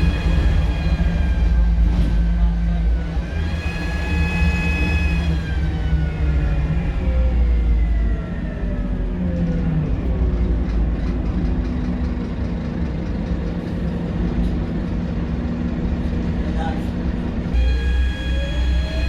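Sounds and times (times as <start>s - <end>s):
bus engine rumble: 0.0s - 19.0s
drivetrain whine: 0.0s - 19.0s.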